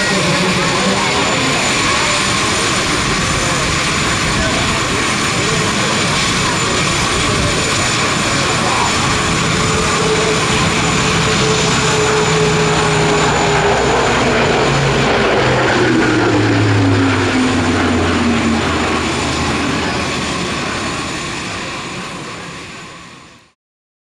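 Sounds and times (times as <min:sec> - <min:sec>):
turboprop engines droning: 0:00.0 - 0:23.6.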